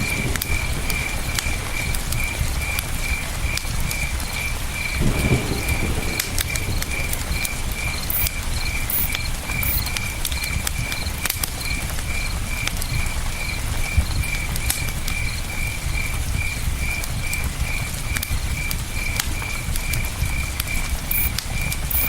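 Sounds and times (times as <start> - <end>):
campfire crackling and popping: 0.0 - 22.0
cricket chirping: 0.0 - 22.0.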